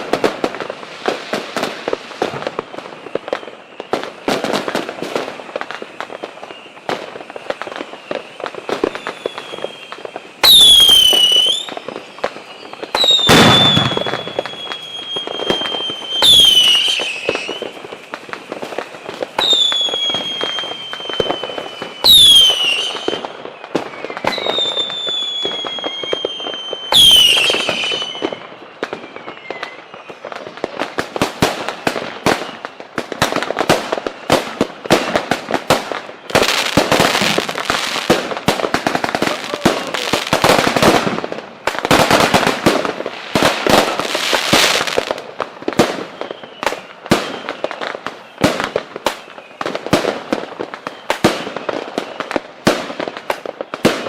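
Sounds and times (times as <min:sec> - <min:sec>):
firecrackers crackling: 0:00.0 - 0:54.0
long falling firework whistles: 0:00.0 - 0:54.0
shrill firework whistle: 0:00.0 - 0:54.0.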